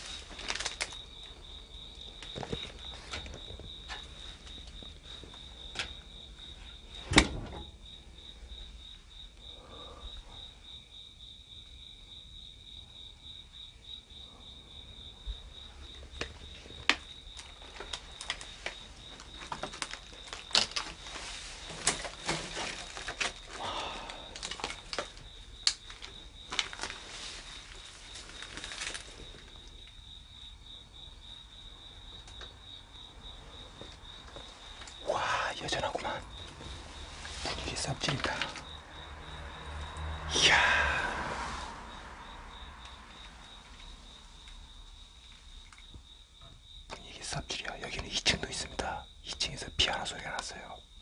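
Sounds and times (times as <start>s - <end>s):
crickets chirping: 0.0s - 51.0s.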